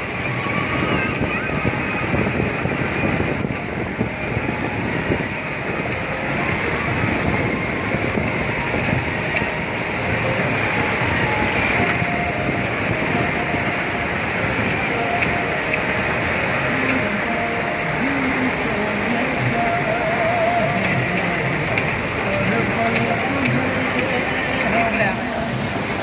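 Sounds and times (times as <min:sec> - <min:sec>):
vehicle engine on rough track: 0:00.0 - 0:26.0
white-water river rushing: 0:00.0 - 0:26.0.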